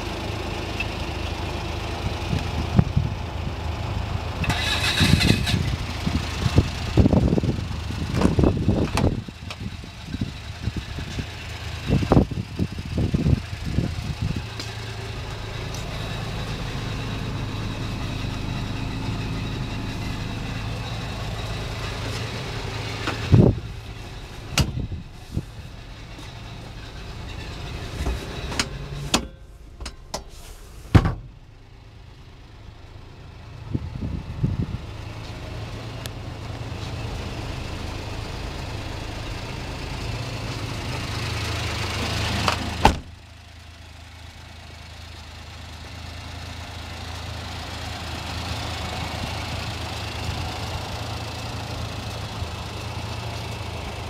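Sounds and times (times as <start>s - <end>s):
small engine idling: 0.0s - 30.1s, 31.4s - 54.0s.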